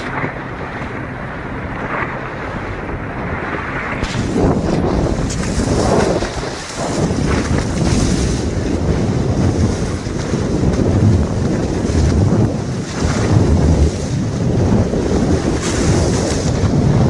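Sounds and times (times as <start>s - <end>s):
water rushing past hull: 0.0s - 17.0s
wind buffeting microphone: 0.0s - 17.0s.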